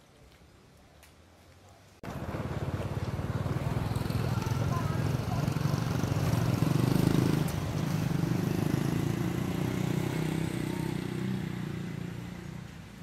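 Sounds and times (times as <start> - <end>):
vehicle engine rumbling: 2.0 - 13.0.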